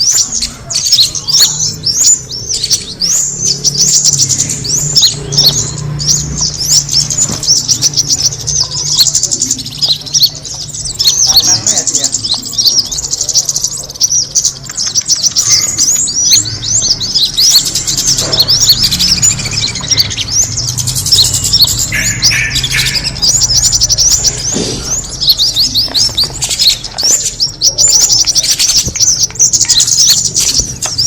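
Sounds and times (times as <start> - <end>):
high-pitched bird call chirps: 0.0 - 31.0.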